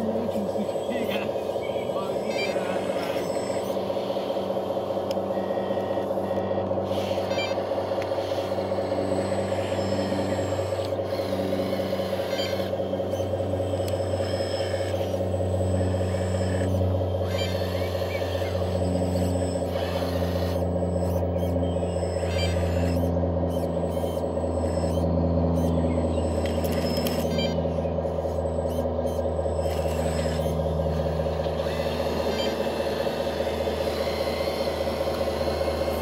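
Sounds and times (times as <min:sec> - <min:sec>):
hydraulic pump whining: 0:00.0 - 0:36.0.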